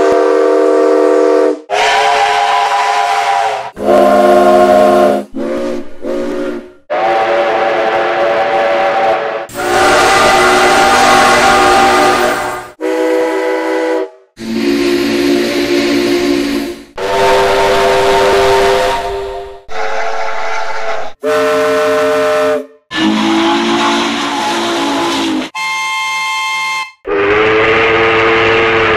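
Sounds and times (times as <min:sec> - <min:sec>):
steam train whistle blasts: 0:00.0 - 0:19.5, 0:21.2 - 0:28.9.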